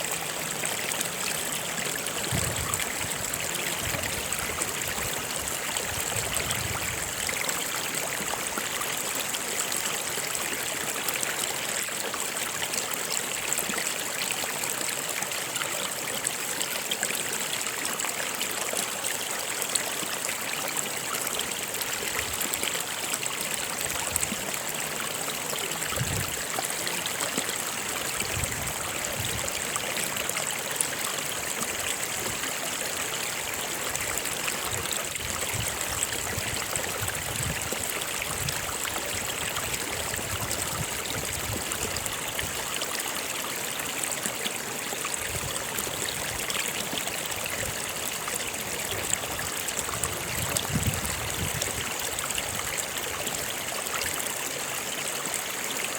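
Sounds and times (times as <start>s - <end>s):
stream running over rocks: 0.0s - 55.9s.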